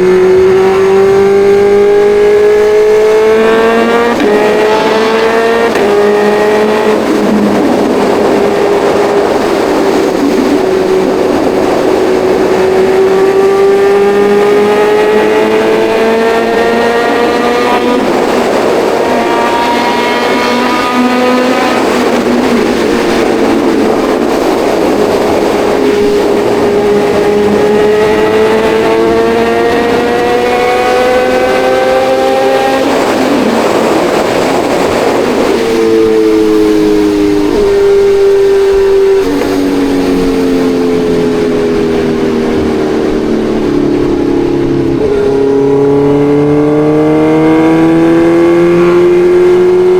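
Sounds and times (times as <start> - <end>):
motorcycle engine accelerating: 0.0 - 49.9
road and wind noise: 0.0 - 49.9.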